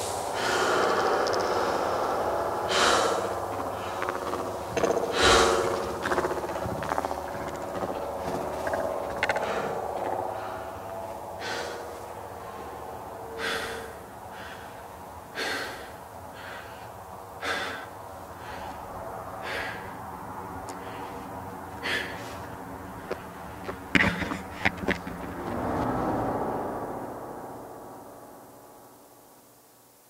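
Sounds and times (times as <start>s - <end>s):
slow breaths: 0.0s - 24.7s
steady sustained drone: 0.0s - 30.0s.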